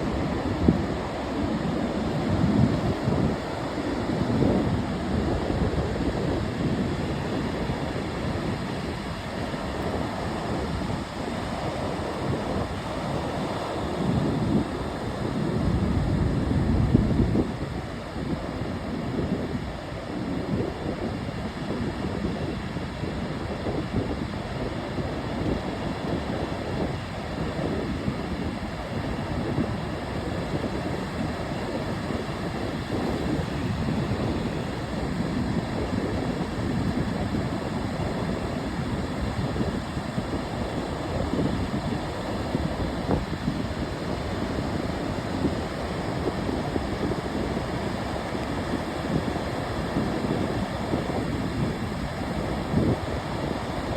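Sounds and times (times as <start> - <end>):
ocean waves washing: 0.0 - 53.9.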